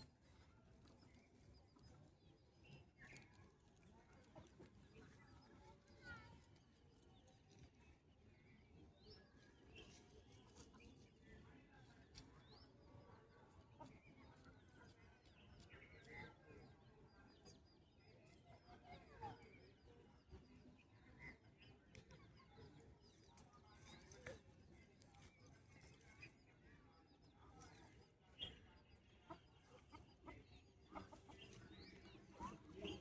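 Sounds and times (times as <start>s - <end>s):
faint bird calls and chirps: 0.0s - 33.0s.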